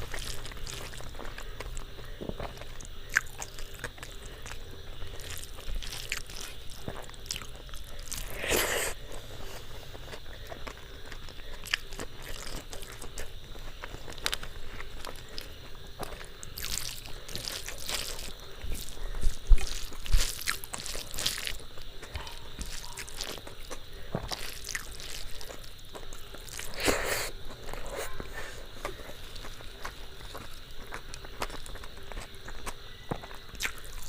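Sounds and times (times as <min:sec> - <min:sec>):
wet chewing: 0:00.0 - 0:34.0.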